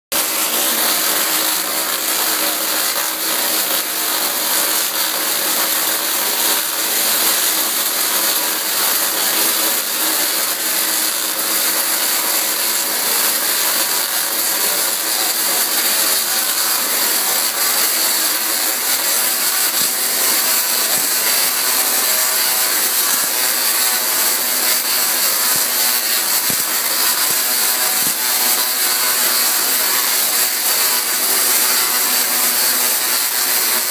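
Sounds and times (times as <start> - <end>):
tesla coil sparks buzzing: 0.1 - 33.9.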